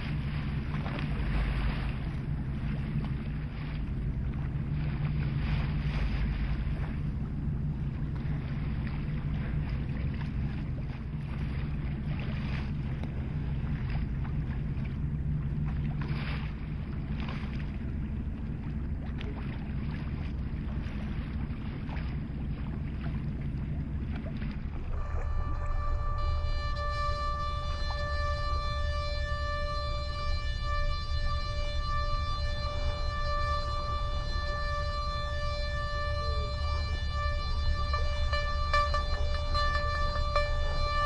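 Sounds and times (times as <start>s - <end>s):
boat engine humming: 0.0s - 41.0s
water noise: 0.0s - 41.0s
wind: 0.0s - 41.0s.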